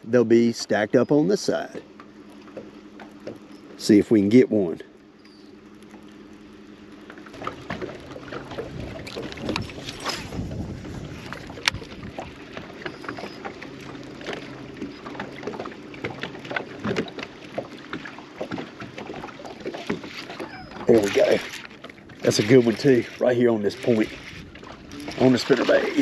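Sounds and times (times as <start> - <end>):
electric trolling motor hum: 0.0 - 26.0.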